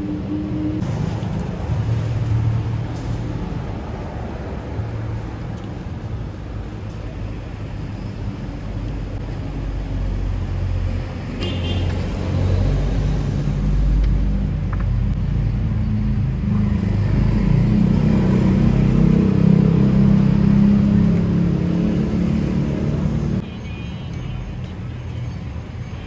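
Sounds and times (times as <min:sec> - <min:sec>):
vehicle engines droning: 0:00.0 - 0:26.0.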